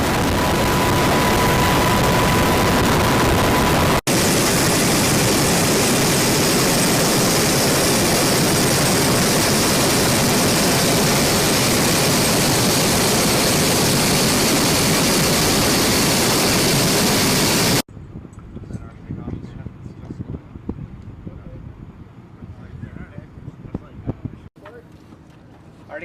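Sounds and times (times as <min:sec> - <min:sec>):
helicopter turbine and rotor noise: 0:00.0 - 0:26.0.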